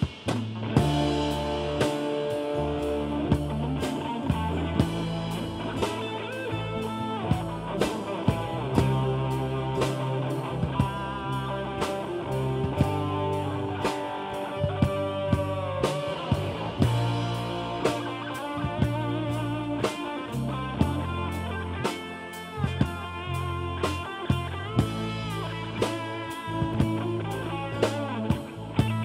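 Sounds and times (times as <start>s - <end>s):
drum kit steady beat: 0.0s - 29.0s
electric guitar: 0.0s - 29.0s.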